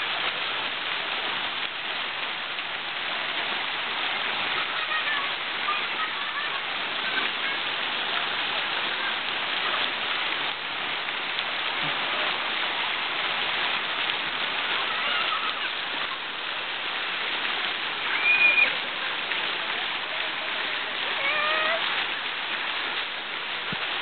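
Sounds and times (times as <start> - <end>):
water spraying into splash pool: 0.0 - 24.0
faint voices: 3.0 - 24.0.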